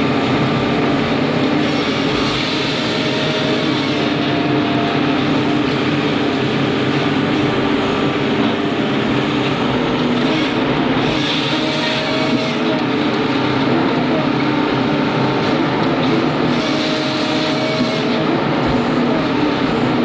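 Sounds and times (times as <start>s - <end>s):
log loader engine and hydraulics: 0.0s - 20.0s.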